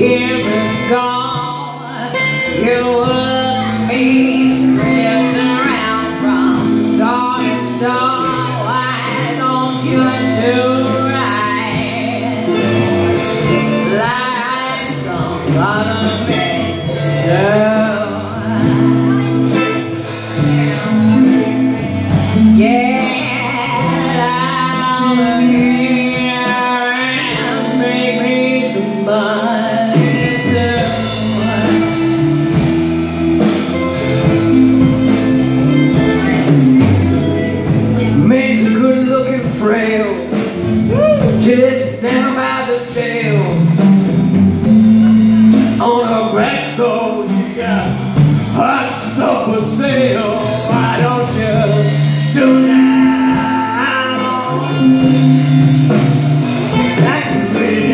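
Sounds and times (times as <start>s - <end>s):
live blues band playing: 0.0s - 57.9s
person singing: 0.0s - 57.9s.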